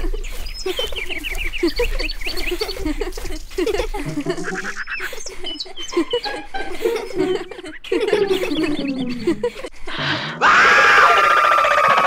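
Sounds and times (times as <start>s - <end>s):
birds chirping: 0.0s - 10.3s.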